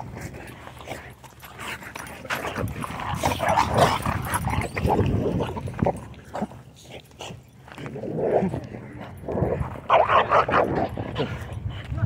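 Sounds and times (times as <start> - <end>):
dogs scuffling and barking: 0.0 - 12.0.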